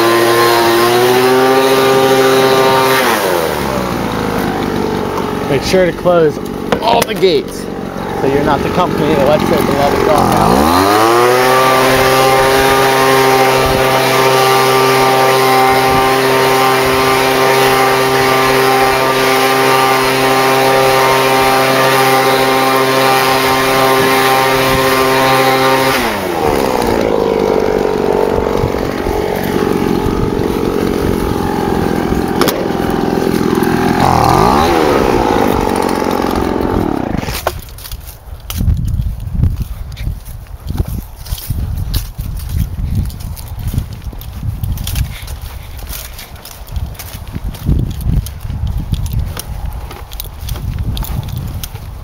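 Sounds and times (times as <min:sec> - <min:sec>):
lawn mower engine running: 0:00.0 - 0:39.2, 0:40.2 - 0:52.0.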